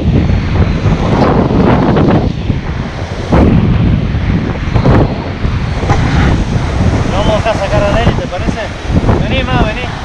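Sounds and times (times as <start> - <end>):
surf breaking on beach: 0.0 - 10.0
wind buffeting microphone: 0.0 - 10.0.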